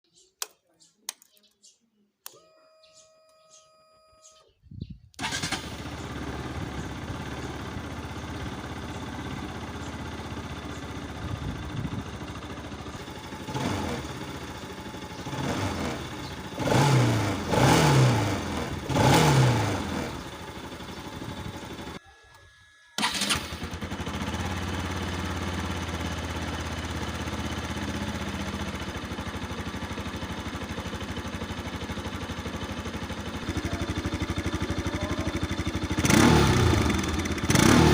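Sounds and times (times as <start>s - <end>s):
motorcycle engine idling: 5.2s - 22.0s, 23.0s - 37.9s
motorcycle engine revving: 5.2s - 22.0s, 23.0s - 37.9s
motorcycle engine starting: 5.2s - 22.0s, 22.9s - 37.9s.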